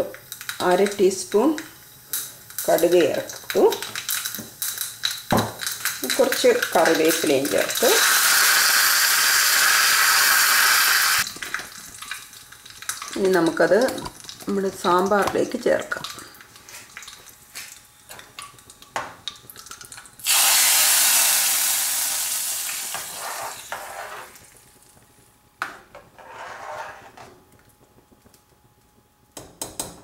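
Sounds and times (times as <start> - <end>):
hot oil hissing and sizzling: 0.0 - 24.8.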